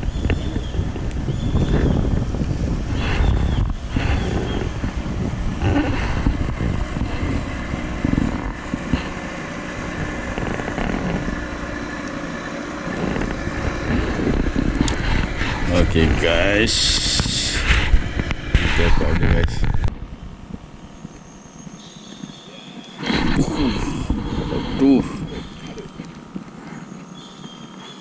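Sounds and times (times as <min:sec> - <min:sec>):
wind buffeting microphone: 0:00.0 - 0:22.3, 0:23.0 - 0:26.6
outboard motor running: 0:00.0 - 0:28.0.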